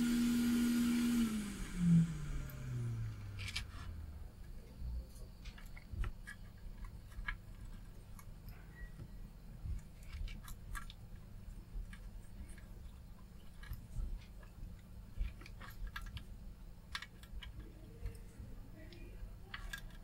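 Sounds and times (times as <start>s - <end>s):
blower hum: 0.0s - 20.0s.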